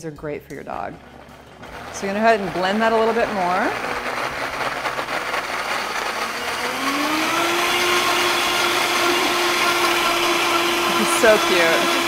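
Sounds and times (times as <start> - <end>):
blender motor whining: 1.0 - 12.0.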